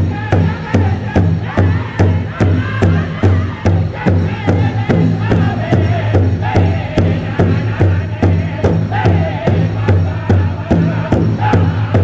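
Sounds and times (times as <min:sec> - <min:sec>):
large drum beating: 0:00.0 - 0:12.0
men singing high-pitched: 0:00.0 - 0:12.0.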